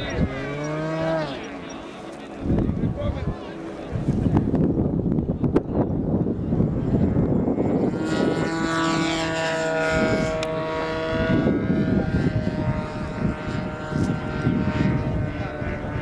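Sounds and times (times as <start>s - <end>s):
model airplane engine and propeller: 0.0s - 16.0s
wind buffeting microphone: 0.0s - 16.0s.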